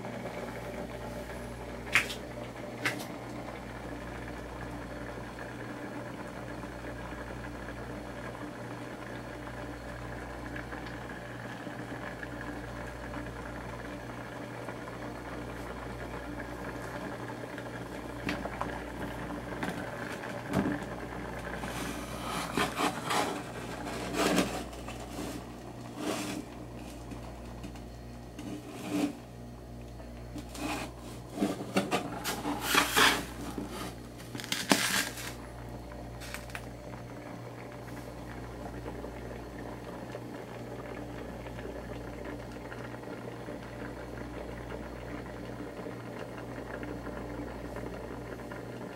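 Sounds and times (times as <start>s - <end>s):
cooking range electric hum: 0.0s - 48.9s.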